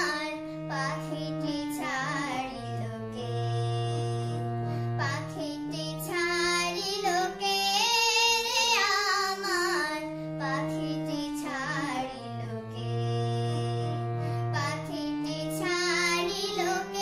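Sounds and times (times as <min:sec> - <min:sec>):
girl singing: 0:00.0 - 0:17.0
harmonium: 0:00.0 - 0:17.0.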